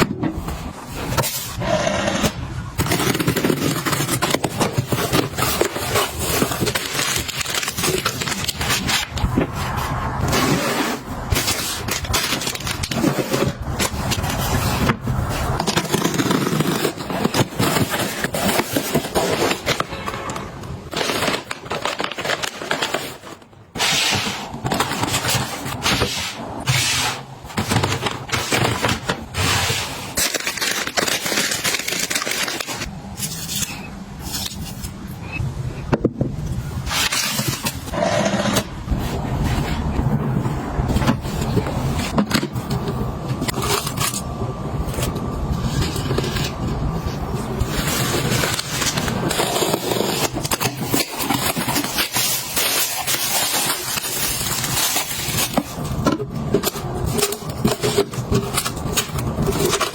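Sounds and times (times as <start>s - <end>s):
food packaging rustling: 2.8s - 35.0s, 40.7s - 59.9s.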